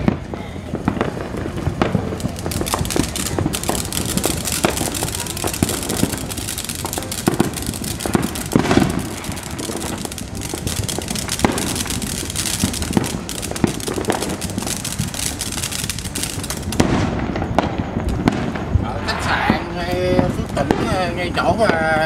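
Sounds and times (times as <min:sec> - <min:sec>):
firework fountain crackling hiss: 0:00.0 - 0:22.0
fireworks banging: 0:00.0 - 0:22.0.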